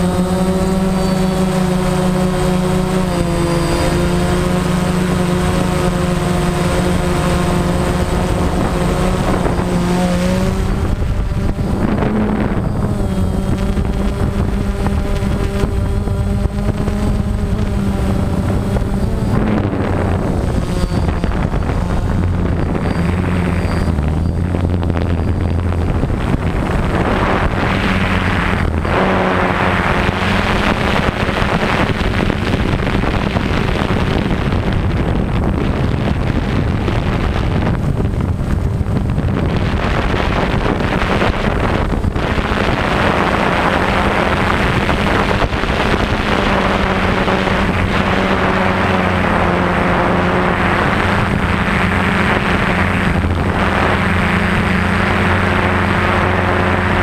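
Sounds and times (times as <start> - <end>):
drone motors humming: 0.0 - 57.0
wind rushing across microphone: 0.0 - 57.0.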